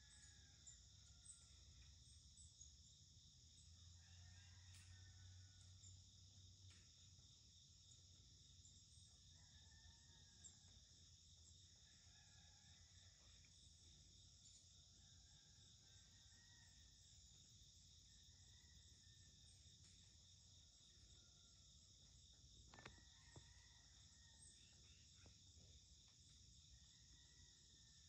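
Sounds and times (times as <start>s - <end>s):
crickets and insects chirping: 0.0s - 28.0s.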